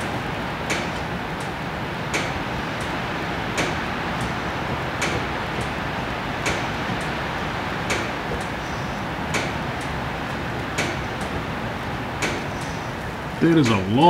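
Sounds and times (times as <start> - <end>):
mechanical clicking: 0.0 - 13.8
steady hiss: 0.0 - 14.0.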